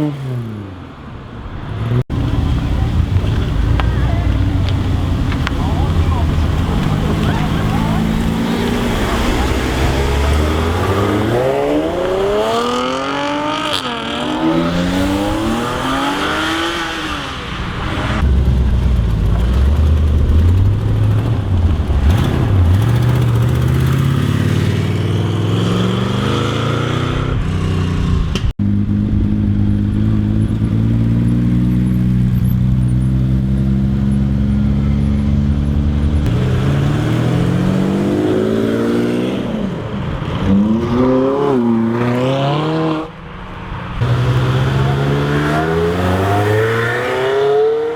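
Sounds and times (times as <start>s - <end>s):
sports car engines revving: 1.5s - 47.9s.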